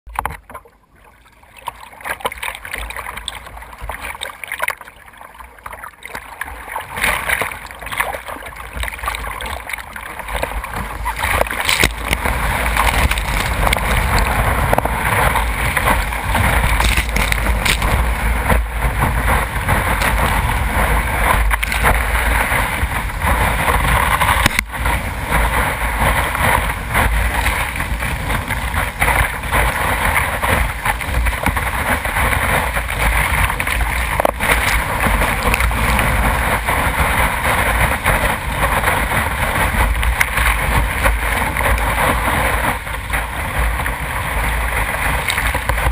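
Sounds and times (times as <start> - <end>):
surf and whitewater rushing: 0.1 - 45.9
wind buffeting microphone: 6.5 - 45.9.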